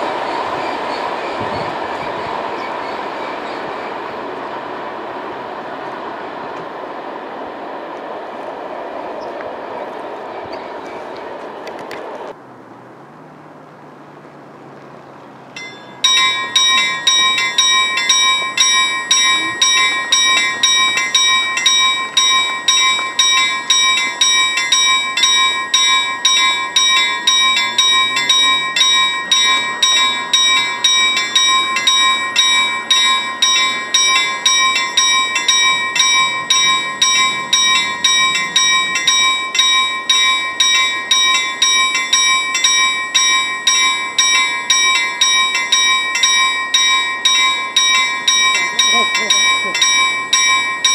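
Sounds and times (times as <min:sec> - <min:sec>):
level-crossing warning bell ringing: 0:00.0 - 0:06.5, 0:15.5 - 0:50.9.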